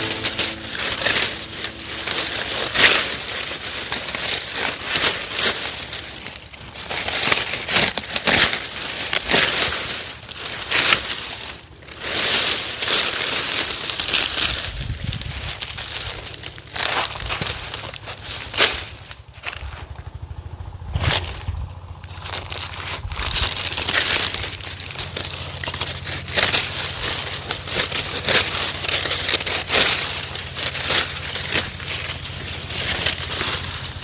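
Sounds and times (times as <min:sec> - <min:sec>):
dry stalks crackling and rustling: 0:00.0 - 0:34.0.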